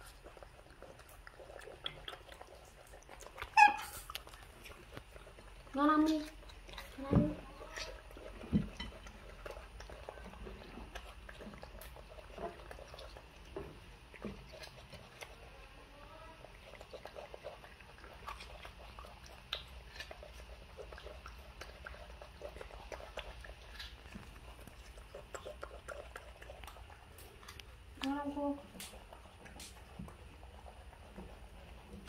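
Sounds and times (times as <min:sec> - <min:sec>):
monkeys chewing with clicks: 0:00.0 - 0:32.0.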